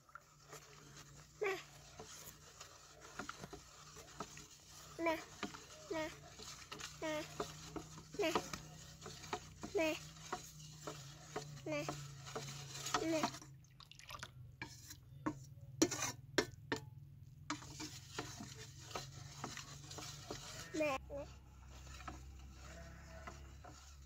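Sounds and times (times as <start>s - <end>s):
metal spoon stirring in steel bowl: 0.0s - 24.0s.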